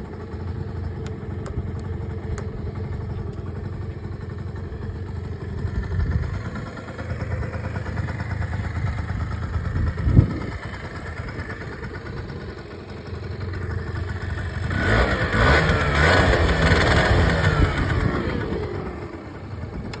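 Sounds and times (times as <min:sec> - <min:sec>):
scooter engine running: 0:00.0 - 0:20.0.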